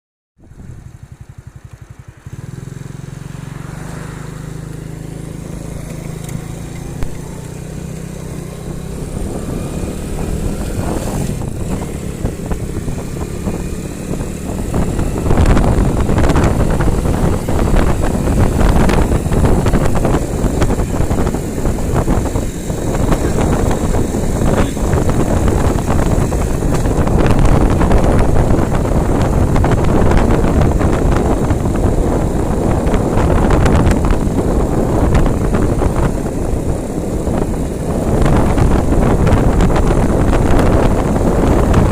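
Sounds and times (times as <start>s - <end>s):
engine running: 0.4s - 41.9s.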